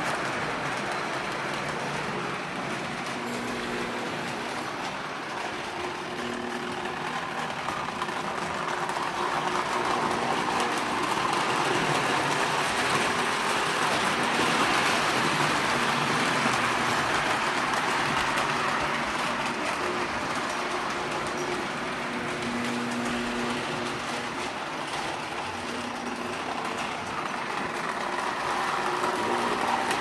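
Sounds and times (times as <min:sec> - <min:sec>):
model train rumbling on track: 0:00.0 - 0:30.0.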